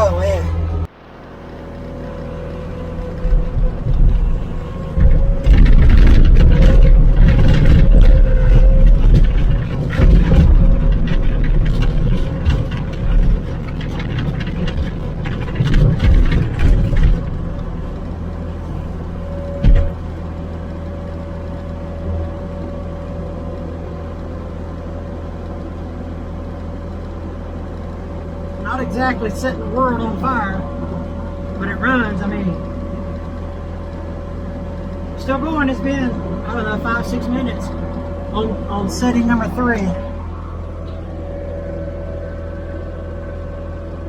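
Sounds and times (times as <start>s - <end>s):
faint steady whine: 0.0s - 44.0s
skid steer engine running: 0.0s - 44.0s.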